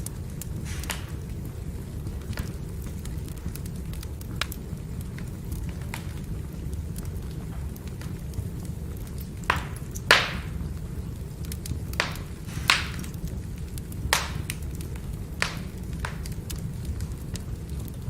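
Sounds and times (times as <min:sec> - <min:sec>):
firewood burning with crackling pops: 0:00.0 - 0:18.0.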